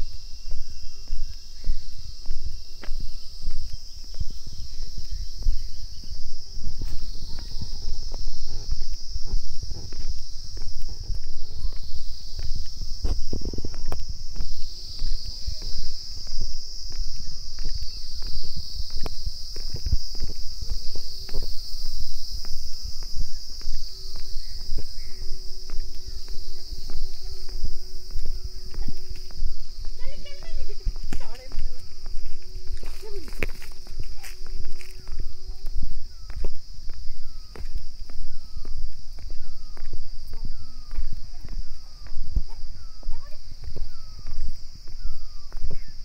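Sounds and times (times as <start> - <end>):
crickets chirring: 0.0 - 46.0
footsteps on gravel: 0.0 - 46.0
insects droning: 0.0 - 46.0.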